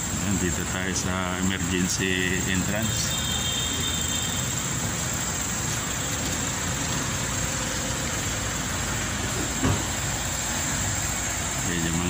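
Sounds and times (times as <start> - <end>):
vehicle engines and traffic: 0.0 - 12.0.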